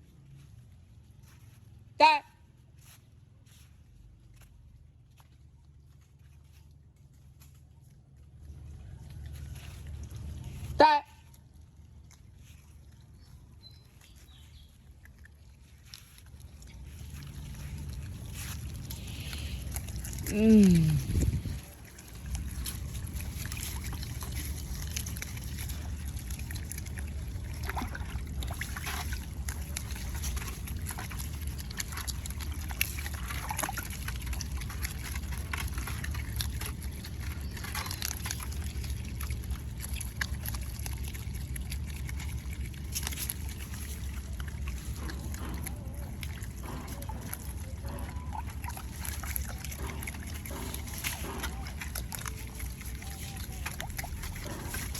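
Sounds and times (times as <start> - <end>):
steady low rumble: 2.5 - 54.9
otters splashing in water: 6.2 - 54.9.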